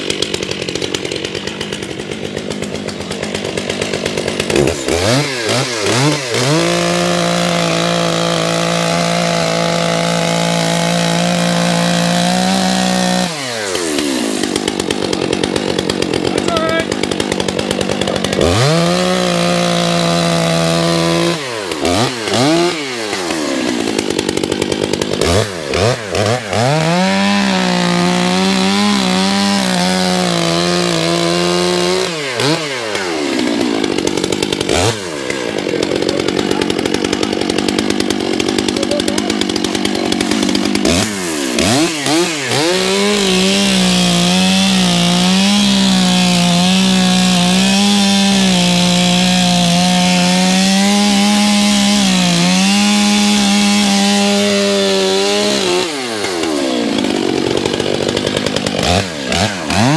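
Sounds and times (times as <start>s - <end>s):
chainsaw cutting ice: 0.0s - 59.9s.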